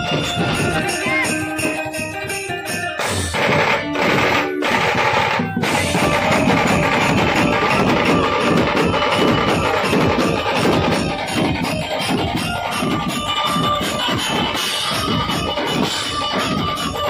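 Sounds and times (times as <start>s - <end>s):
loud music with drum beat: 0.0s - 17.0s.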